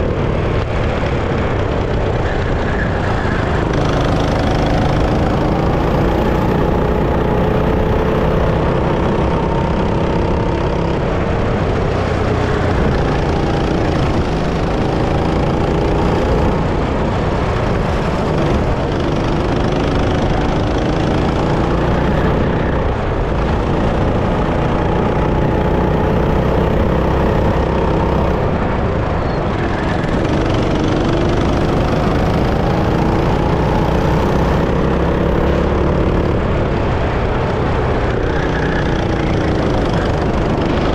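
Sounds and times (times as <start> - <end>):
go-kart engine running: 0.0 - 40.9.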